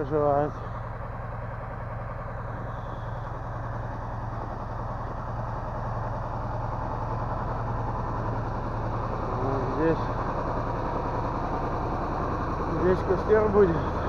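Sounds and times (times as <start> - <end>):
machine engine idling: 0.0 - 14.0.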